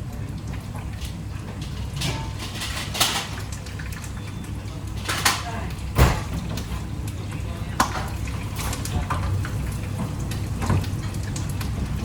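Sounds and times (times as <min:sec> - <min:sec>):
water running at a sink: 0:00.0 - 0:12.0.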